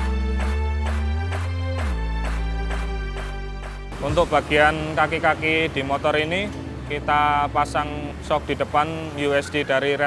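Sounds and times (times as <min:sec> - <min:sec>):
background music with steady beat: 0:00.0 - 0:09.6
held bass notes: 0:00.0 - 0:10.0.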